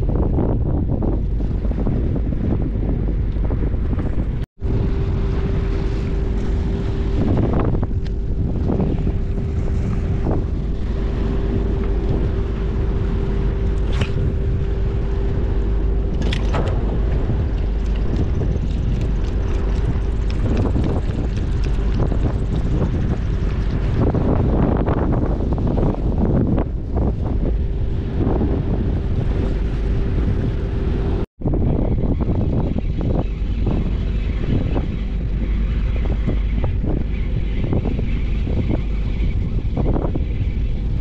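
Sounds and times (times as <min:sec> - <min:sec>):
ship engine hum: 0:00.0 - 0:41.0
wind buffeting microphone: 0:00.0 - 0:41.0.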